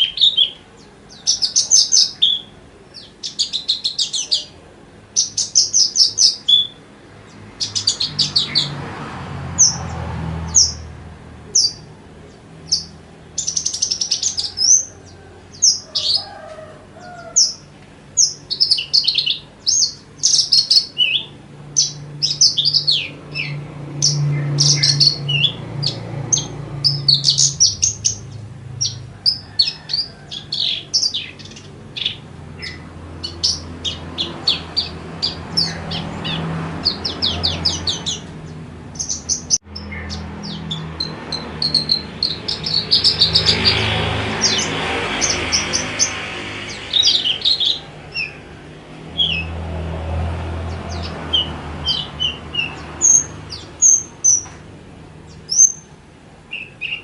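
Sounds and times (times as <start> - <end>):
lark singing: 0.0 - 8.8, 11.5 - 48.5, 56.5 - 57.0.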